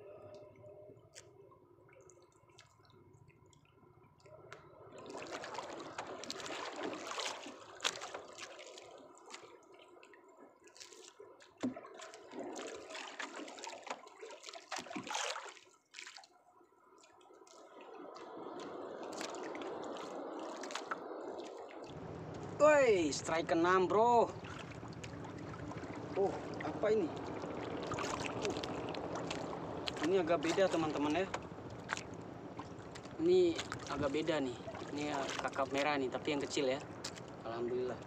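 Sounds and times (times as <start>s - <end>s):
water sloshing around boat: 0.0s - 38.0s.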